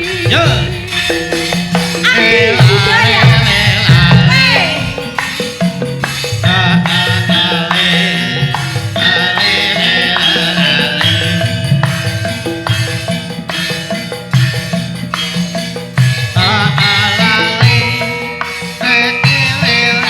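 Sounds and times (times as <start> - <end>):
hand drum patterns: 0.0 - 20.0
metallophones and gongs ringing: 0.0 - 20.0
wavering melody line: 0.0 - 20.0.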